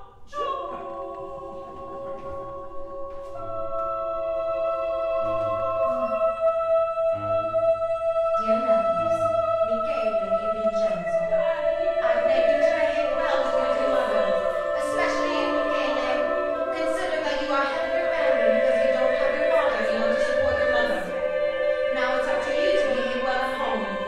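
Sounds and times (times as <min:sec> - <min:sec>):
chamber ensemble music: 0:00.0 - 0:24.0
women singing: 0:00.0 - 0:24.0.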